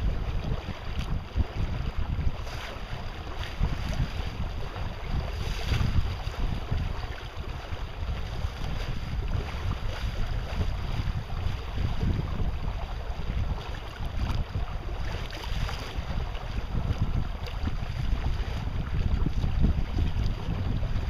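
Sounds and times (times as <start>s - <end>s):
water rushing past boat: 0.0s - 21.0s
wind buffeting microphone: 0.0s - 21.0s.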